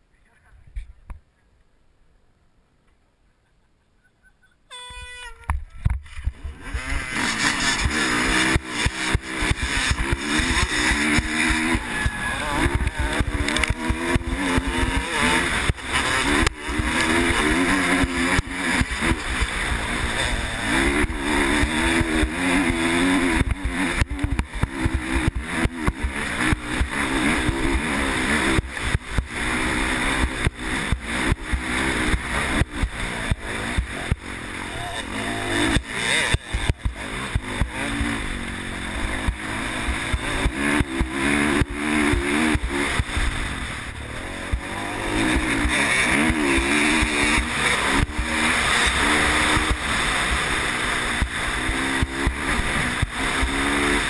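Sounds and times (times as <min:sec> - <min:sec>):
dirt bike engines revving: 0:04.7 - 0:54.0.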